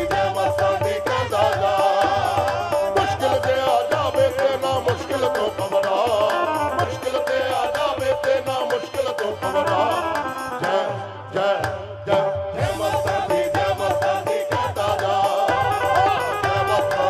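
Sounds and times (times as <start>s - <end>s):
instrumental backing: 0.0s - 17.0s
man singing devotional song: 0.0s - 17.0s
steady drum beat: 0.0s - 17.0s.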